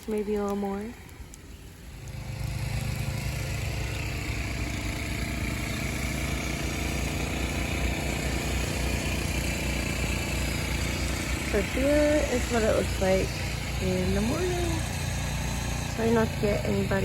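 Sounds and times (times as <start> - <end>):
snowblower engine running: 0.0 - 17.0.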